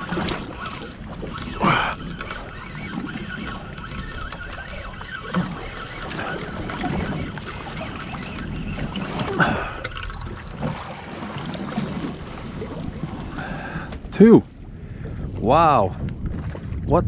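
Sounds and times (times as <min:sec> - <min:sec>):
water lapping against boat hull: 0:00.0 - 0:17.0
water splashes: 0:00.0 - 0:17.0.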